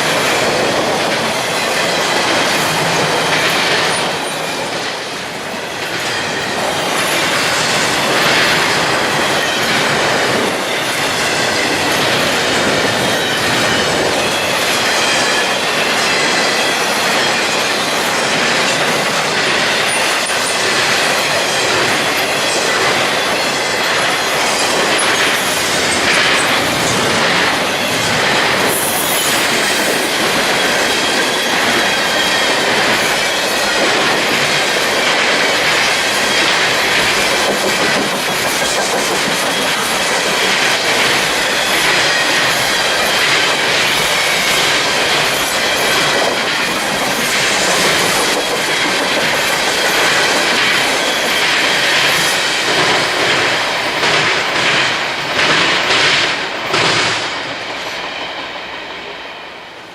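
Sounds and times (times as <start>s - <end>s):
train wheels clicking on rail joints: 0.0s - 59.1s.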